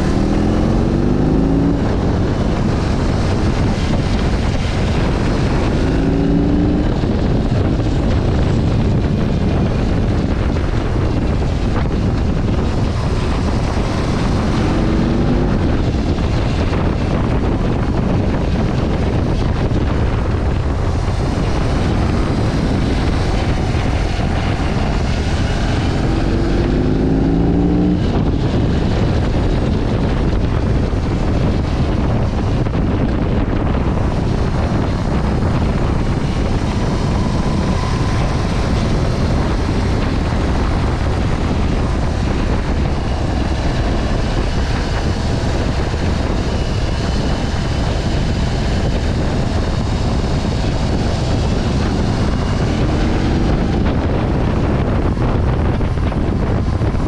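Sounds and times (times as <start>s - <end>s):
motorcycle engine running: 0.0s - 57.0s
wind on microphone: 0.0s - 57.0s.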